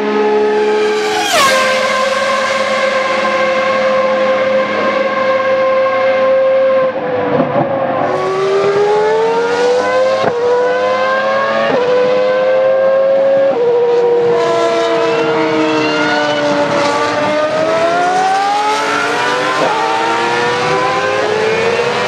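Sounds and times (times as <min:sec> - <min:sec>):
engine upshifts: 0:00.0 - 0:22.0
race car engine passing at speed: 0:00.0 - 0:22.0.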